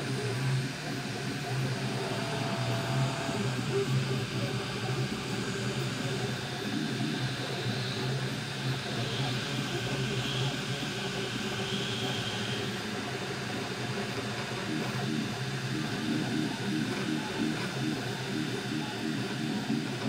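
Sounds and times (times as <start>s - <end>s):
printer fans whirring: 0.0s - 20.0s.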